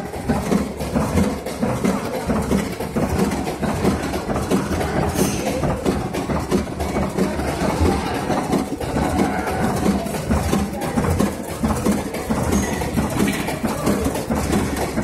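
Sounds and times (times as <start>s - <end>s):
machinery rhythmic clatter: 0.0s - 15.0s.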